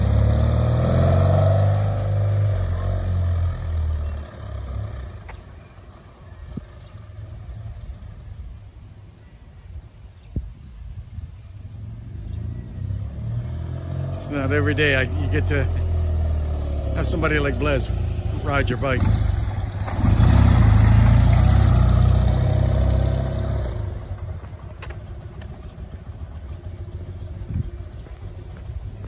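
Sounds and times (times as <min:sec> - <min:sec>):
motorcycle engine passing: 0:00.0 - 0:08.4, 0:11.8 - 0:29.0.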